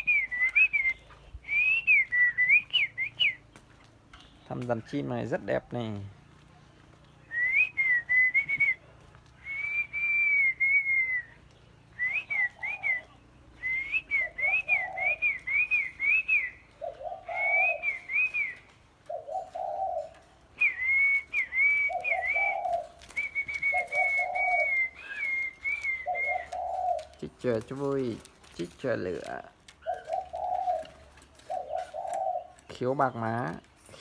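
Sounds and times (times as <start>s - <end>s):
songbirds whistling song: 0.0s - 34.0s
doves cooing: 5.0s - 34.0s.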